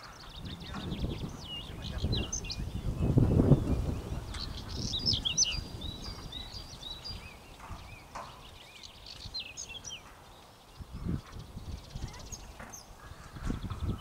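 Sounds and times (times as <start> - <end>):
low wind rumble on microphone: 0.0 - 14.0
small birds chirping and singing: 0.0 - 14.0.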